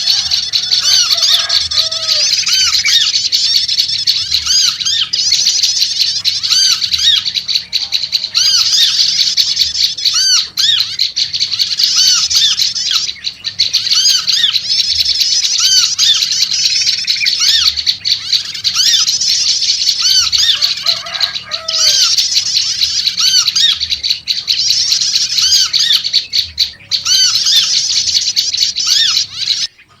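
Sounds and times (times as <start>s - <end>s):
bird rapid high-pitched chattering: 0.0s - 30.0s
lower arched bird call: 0.0s - 30.0s.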